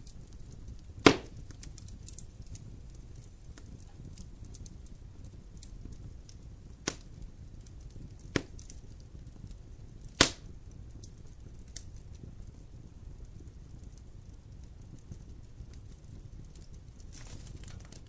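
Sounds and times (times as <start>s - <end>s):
sharp pops from burning wood: 0.0s - 18.0s
wood fire crackling: 0.0s - 18.0s.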